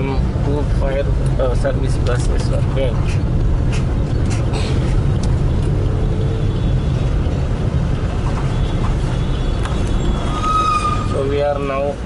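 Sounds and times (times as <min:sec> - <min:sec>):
vehicle driving along a road: 0:00.0 - 0:12.0.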